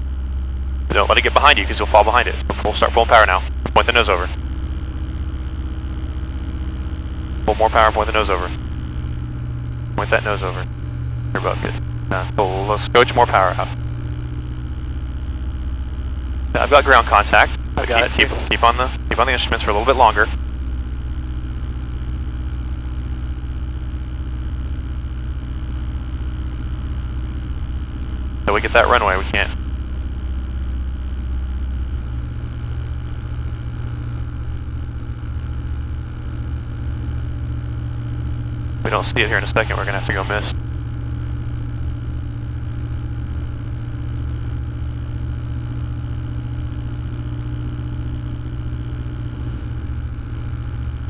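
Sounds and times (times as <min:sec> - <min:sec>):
light aircraft engine drone: 0:00.0 - 0:51.0.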